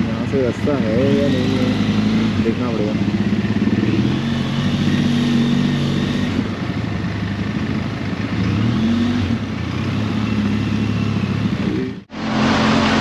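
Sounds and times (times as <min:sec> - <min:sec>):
motorcycle engine revving: 0:00.0 - 0:13.0
road and traffic noise: 0:00.0 - 0:13.0.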